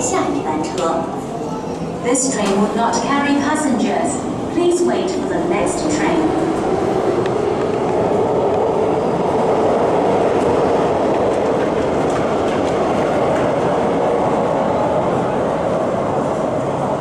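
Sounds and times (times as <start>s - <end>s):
train rumbling through station: 0.0s - 17.0s.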